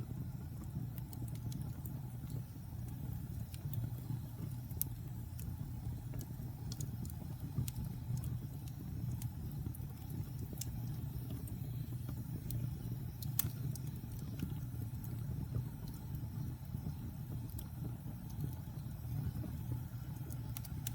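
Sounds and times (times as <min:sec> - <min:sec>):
fire crackling and popping: 0:00.0 - 0:20.9
wood fire rumble: 0:00.0 - 0:20.9.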